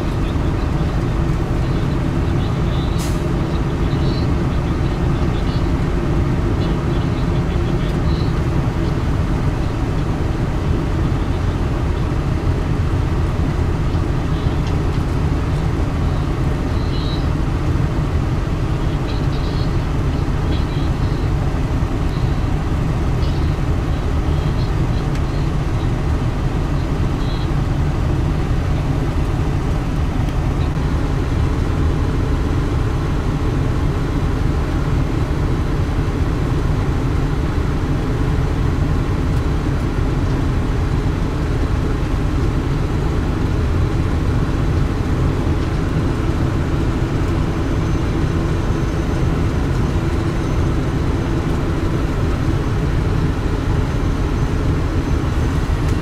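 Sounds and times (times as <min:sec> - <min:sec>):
heavy diesel engines rumbling: 0:00.0 - 0:56.0.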